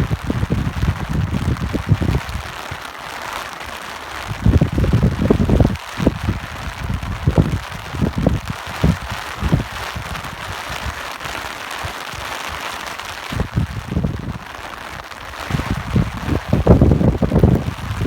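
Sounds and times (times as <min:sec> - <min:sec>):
steady rain hiss: 0:00.0 - 0:18.0
wind gusts buffeting: 0:00.0 - 0:18.0.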